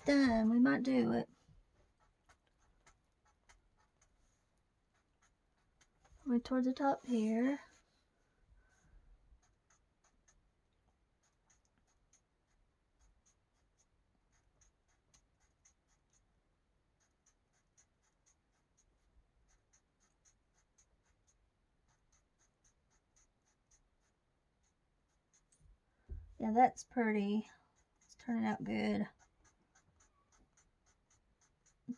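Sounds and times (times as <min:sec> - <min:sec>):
colouring strokes scratching paper: 0:00.1 - 0:10.5, 0:11.1 - 0:25.7, 0:26.4 - 0:31.9.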